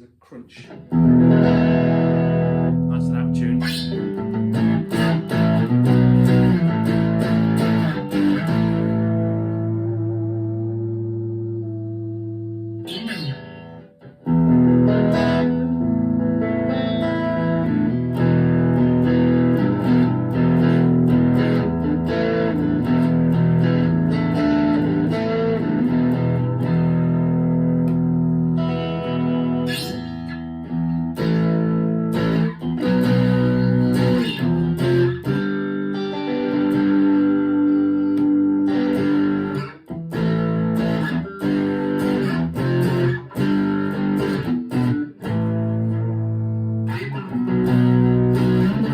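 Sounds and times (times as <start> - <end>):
overdriven electric guitar: 0.6 - 48.9.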